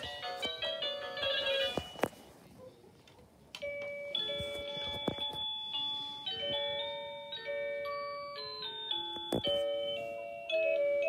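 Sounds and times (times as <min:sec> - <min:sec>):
electronic doorbell chime melody: 0:00.1 - 0:02.0, 0:03.6 - 0:11.0.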